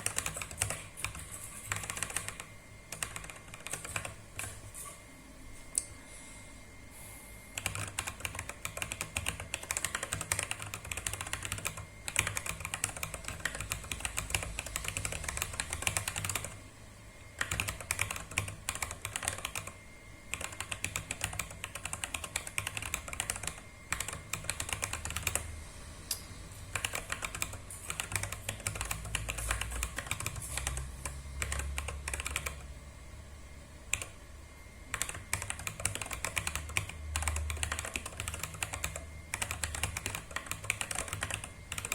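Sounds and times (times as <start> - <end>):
mechanical keyboard typing: 0.0 - 4.6, 7.6 - 16.6, 17.4 - 25.5, 26.7 - 32.7, 33.9 - 34.2, 34.9 - 41.9.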